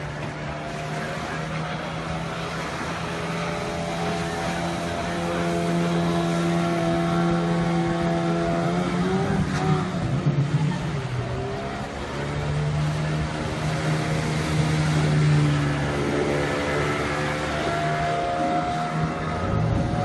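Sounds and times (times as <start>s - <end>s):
outboard motor running hard: 0.0s - 20.0s
rushing water: 0.0s - 20.0s.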